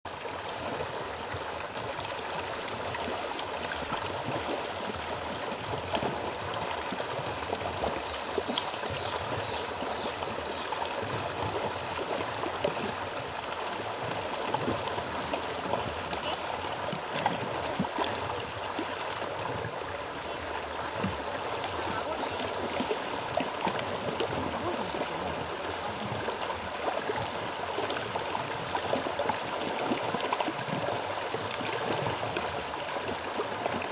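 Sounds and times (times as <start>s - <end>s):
water rushing and gurgling: 0.1s - 33.9s.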